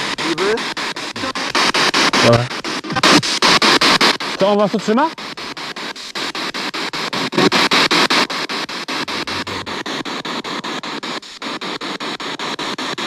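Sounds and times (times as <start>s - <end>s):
pulsing radio static hiss: 0.0s - 13.0s.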